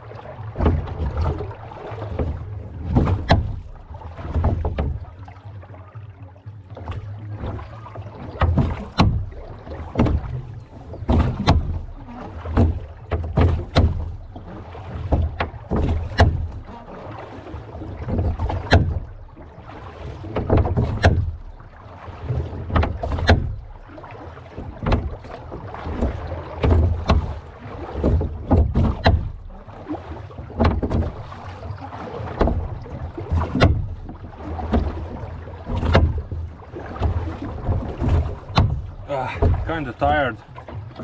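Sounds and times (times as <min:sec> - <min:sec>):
oars swishing through water: 0:00.0 - 0:41.0
oars knocking in oarlocks: 0:00.3 - 0:41.0.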